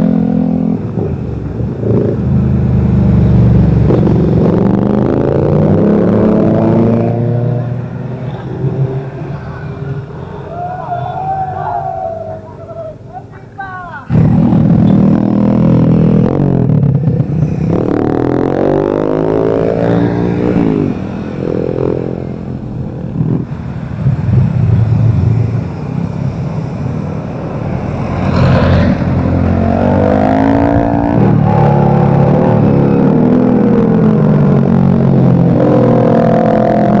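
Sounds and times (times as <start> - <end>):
motorcycles passing revving: 0.0 - 37.0.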